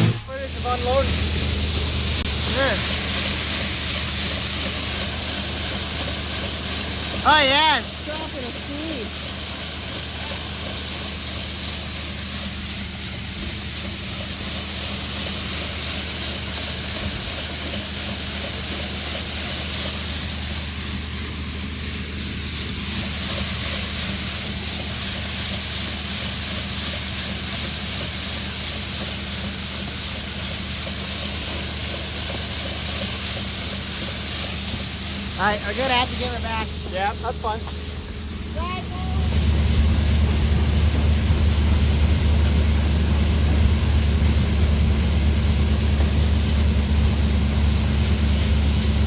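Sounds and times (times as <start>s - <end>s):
harvest machinery engine: 0.0s - 49.0s
loud constant hiss: 0.0s - 49.0s.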